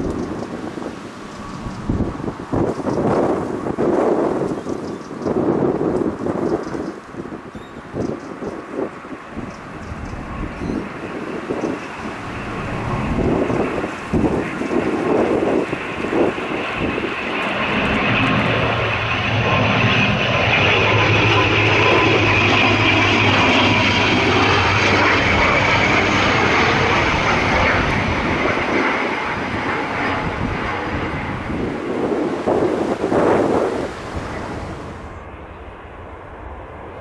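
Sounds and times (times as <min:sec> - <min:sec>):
turboprop airliner passing: 0:00.0 - 0:37.0.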